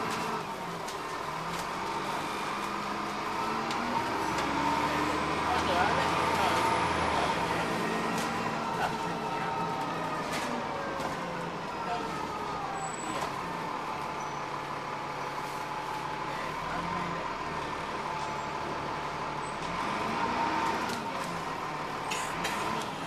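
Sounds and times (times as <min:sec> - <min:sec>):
bus engine whining: 0:00.0 - 0:23.0
road noise: 0:00.0 - 0:23.0.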